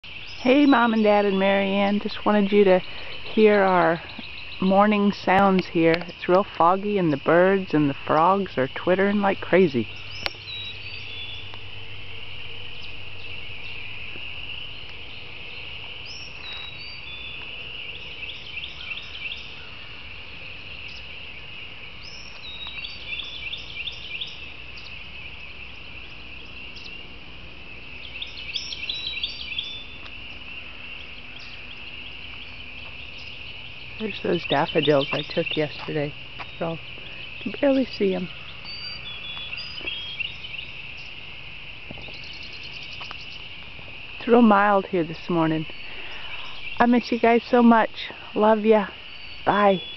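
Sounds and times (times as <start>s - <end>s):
bird singing rapid chirps: 0.0s - 11.7s, 12.7s - 21.2s, 22.0s - 41.2s, 42.0s - 43.6s, 44.2s - 49.9s
frog chorus trilling: 0.0s - 49.9s.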